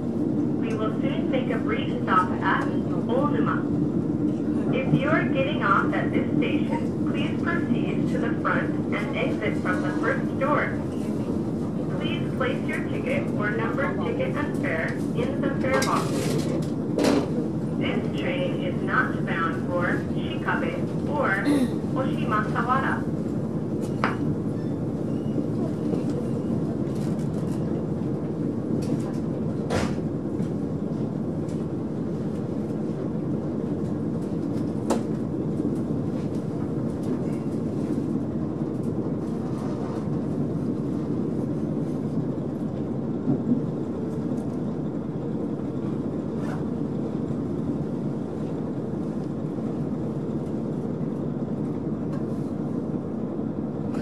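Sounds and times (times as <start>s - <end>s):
diesel railcar rumbling from inside: 0.0s - 54.0s.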